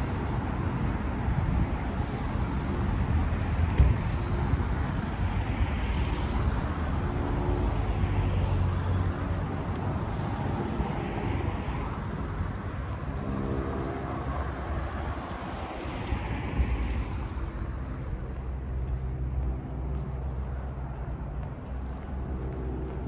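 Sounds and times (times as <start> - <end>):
engine hum: 0.0 - 23.0
low rumble of road traffic: 0.0 - 23.0.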